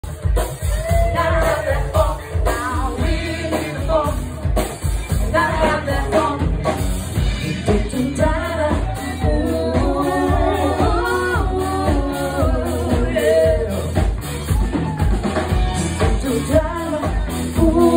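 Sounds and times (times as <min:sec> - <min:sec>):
live funk band playing: 0:00.0 - 0:17.9
lead singer singing: 0:00.7 - 0:14.1, 0:15.7 - 0:17.9.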